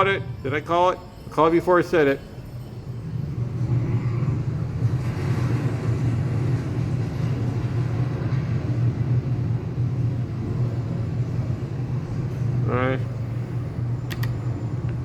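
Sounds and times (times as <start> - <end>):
deep steady rumbling: 2.3 - 15.0.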